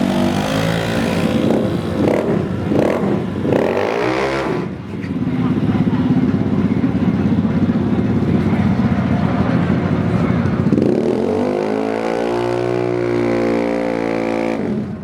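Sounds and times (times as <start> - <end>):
scooter engines revving: 0.0 - 15.0.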